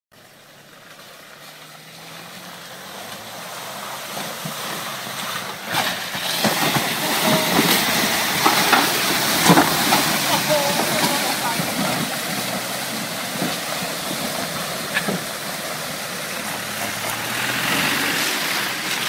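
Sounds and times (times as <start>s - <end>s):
car engine running: 0.2s - 19.0s
mud splashing: 0.7s - 19.0s.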